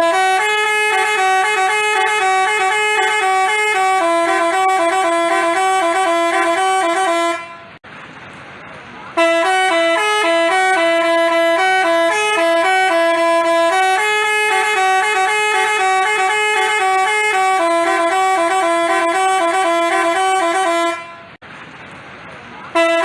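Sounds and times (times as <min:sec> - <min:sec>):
bus horn playing a melody: 0:00.0 - 0:07.8, 0:09.2 - 0:21.4, 0:22.7 - 0:23.0.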